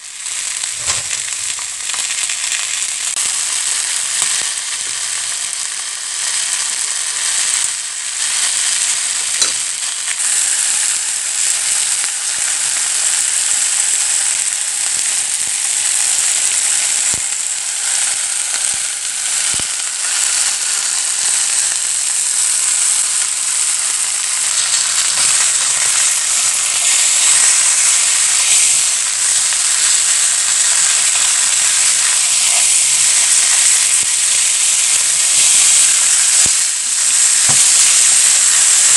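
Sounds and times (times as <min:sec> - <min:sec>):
fish sizzling in a pan: 0:00.0 - 0:38.9.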